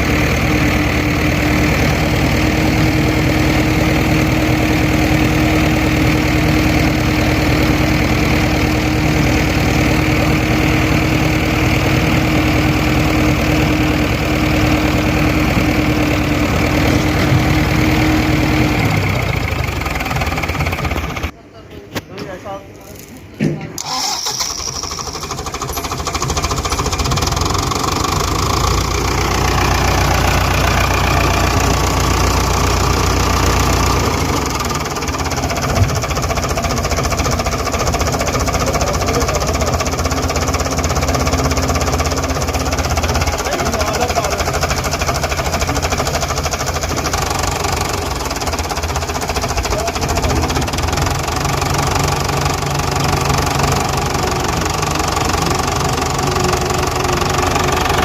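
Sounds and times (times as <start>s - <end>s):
tractor diesel engine running: 0.0s - 21.4s, 23.8s - 58.0s.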